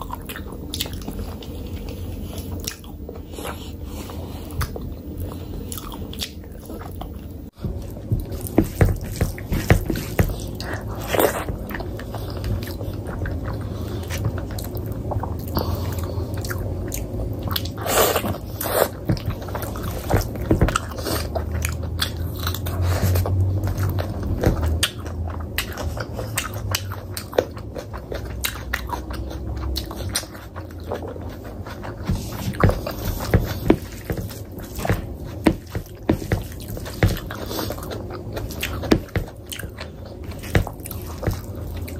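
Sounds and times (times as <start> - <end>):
chewing and mouth smacks: 0.0 - 8.6, 10.3 - 41.9.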